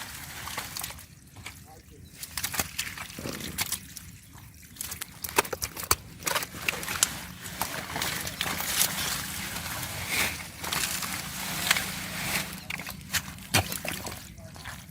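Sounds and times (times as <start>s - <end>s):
river water splashing: 0.0s - 14.9s.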